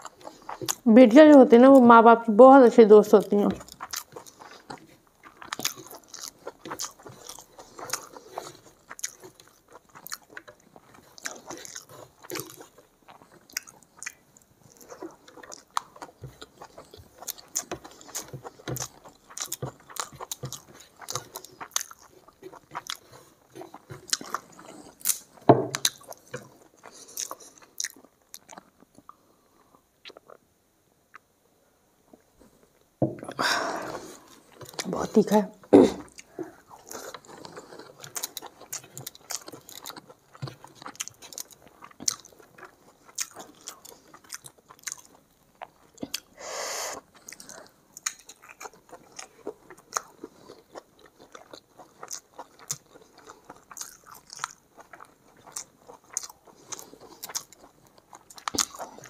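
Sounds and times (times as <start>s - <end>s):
person chewing food: 0.0s - 1.4s, 3.2s - 30.4s, 31.1s - 31.3s, 32.1s - 59.0s.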